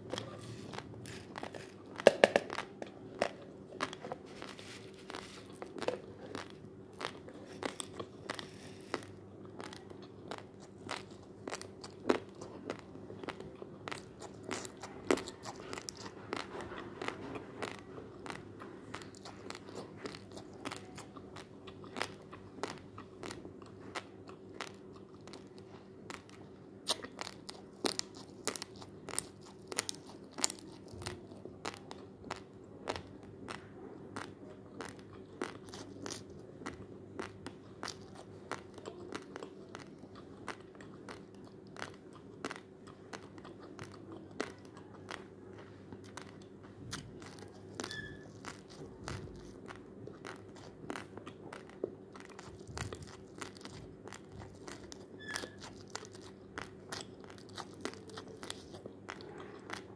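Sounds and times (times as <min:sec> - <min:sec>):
rice grains being chewed: 0:00.0 - 0:59.9.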